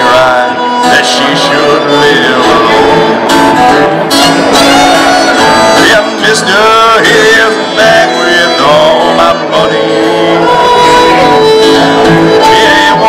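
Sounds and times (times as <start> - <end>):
fiddle melody: 0.0 - 13.0
strummed acoustic guitar: 0.0 - 13.0.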